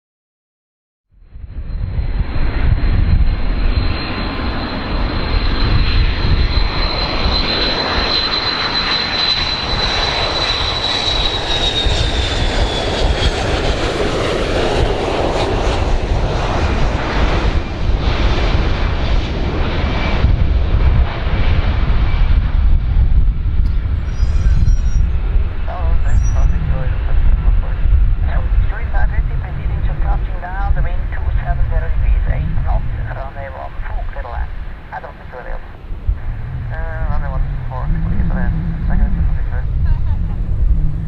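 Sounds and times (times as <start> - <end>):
aircraft engines rumbling: 1.2 - 41.0
high engine whine: 1.2 - 41.0.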